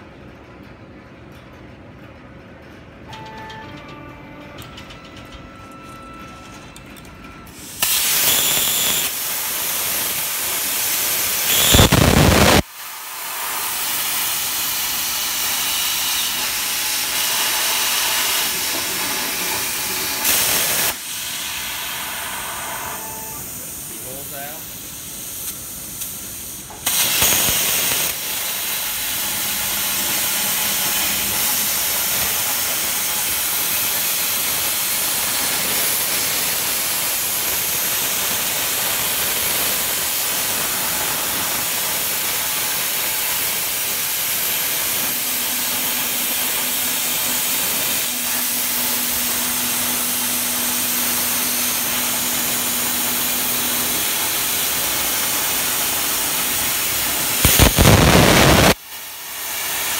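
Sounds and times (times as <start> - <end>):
plasma torch cutting metal: 7.5 - 59.9.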